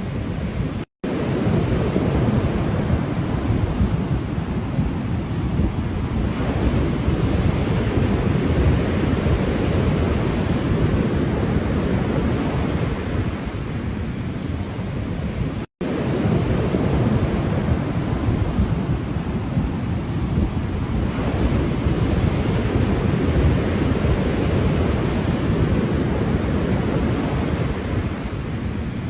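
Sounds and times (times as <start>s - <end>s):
ocean surf rumbling: 0.0s - 29.0s.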